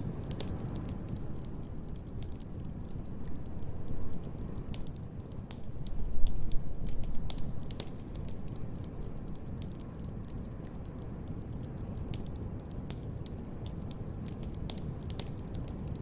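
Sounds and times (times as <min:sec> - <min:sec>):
low fire rumble: 0:00.0 - 0:16.0
sharp pops of fire: 0:00.0 - 0:16.0
wood fire crackling: 0:00.0 - 0:16.0.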